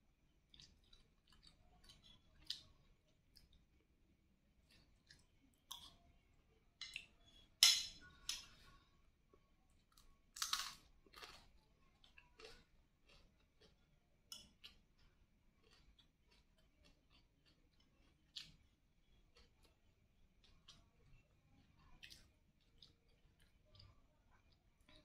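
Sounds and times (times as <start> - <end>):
chewing: 0.4 - 3.9, 4.6 - 6.2, 8.1 - 25.0.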